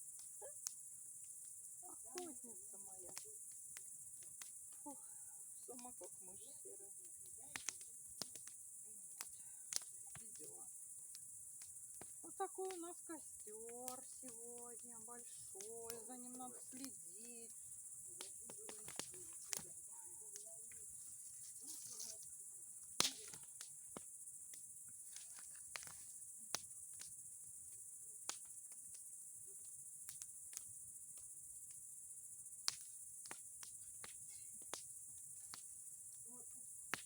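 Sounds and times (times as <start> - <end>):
bonfire crackling and popping: 0.0 - 37.0.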